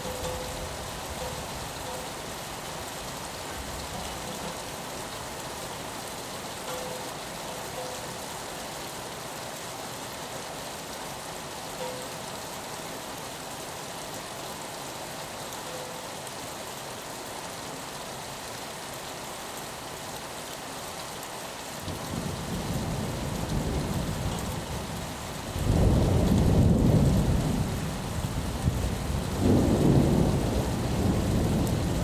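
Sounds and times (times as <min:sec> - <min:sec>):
rain on a window: 0:00.0 - 0:32.0.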